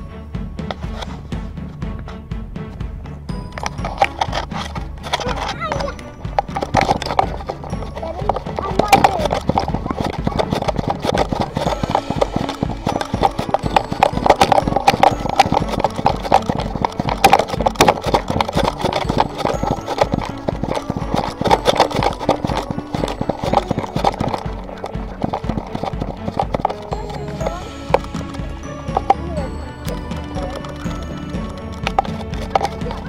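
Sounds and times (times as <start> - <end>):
dog paws striking path: 0.0 - 33.0
camera knocking and rattling: 3.4 - 33.0.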